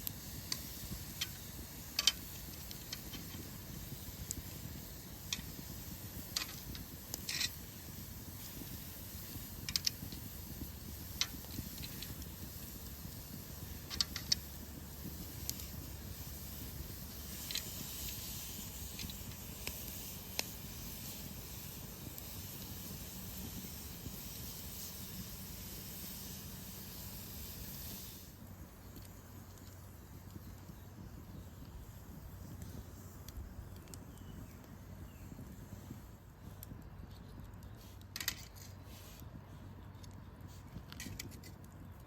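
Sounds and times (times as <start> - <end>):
steady hiss: 0.0 - 39.7
wood fire crackling: 0.0 - 42.0.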